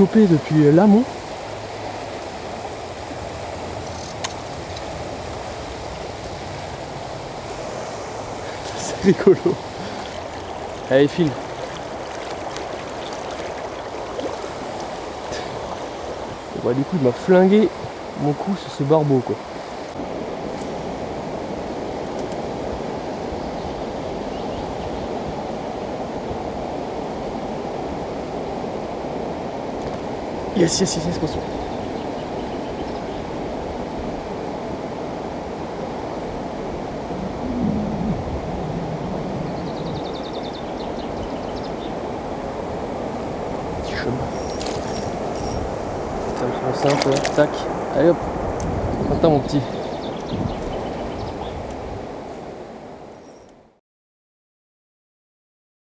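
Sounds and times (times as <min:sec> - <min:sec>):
river water rushing over shallows: 0:00.0 - 0:53.4.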